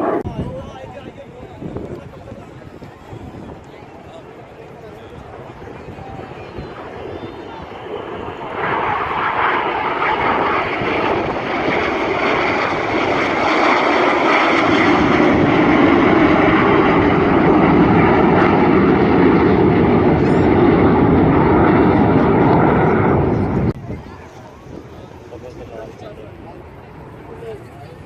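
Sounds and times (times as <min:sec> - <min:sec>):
aircraft engine flying over: 0:00.0 - 0:28.0.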